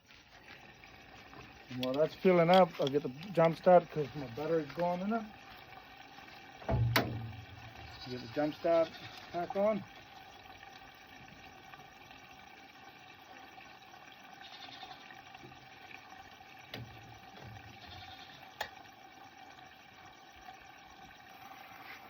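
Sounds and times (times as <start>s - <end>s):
fuel running into tank: 0.0s - 22.0s.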